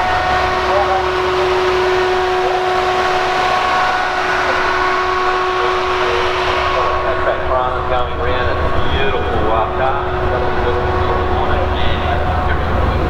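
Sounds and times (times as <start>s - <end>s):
continuous noisy rumble: 0.0s - 13.0s
steady mechanical drone: 0.0s - 13.0s.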